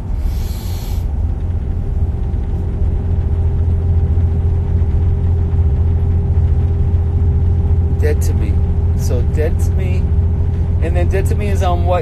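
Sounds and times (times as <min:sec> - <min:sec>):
bus engine rumble: 0:00.0 - 0:12.0
faint steady hum: 0:00.0 - 0:12.0.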